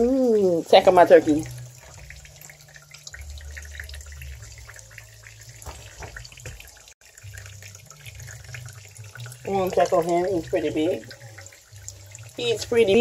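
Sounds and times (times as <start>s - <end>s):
water trickling in a sink: 0.0s - 13.0s.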